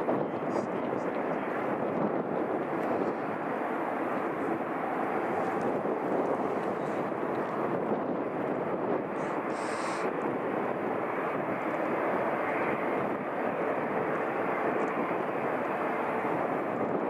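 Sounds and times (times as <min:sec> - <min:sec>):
faint whine: 0:00.0 - 0:17.0
jet engines rushing: 0:00.0 - 0:17.0.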